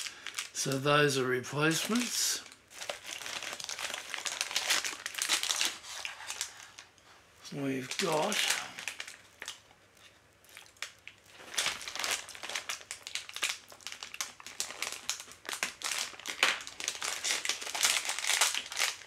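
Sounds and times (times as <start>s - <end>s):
plastic packaging crinkling: 0.0s - 0.8s, 1.7s - 7.0s, 7.6s - 19.0s.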